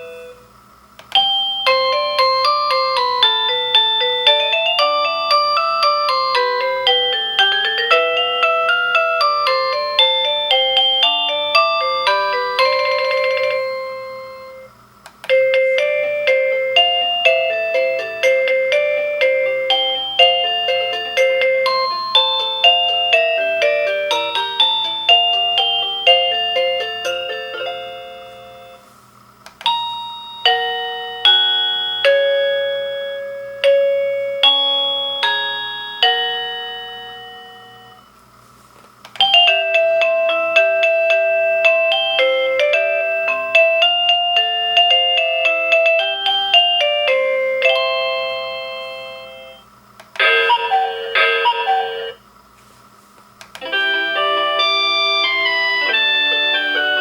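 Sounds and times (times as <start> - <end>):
doorbell chime melody: 0.0 - 0.5, 1.1 - 14.7, 15.3 - 28.9, 29.6 - 38.1, 39.2 - 52.2, 53.6 - 57.0.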